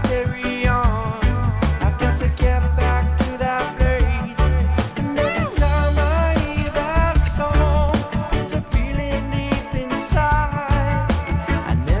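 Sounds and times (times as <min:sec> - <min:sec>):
reggae music: 0:00.0 - 0:12.0.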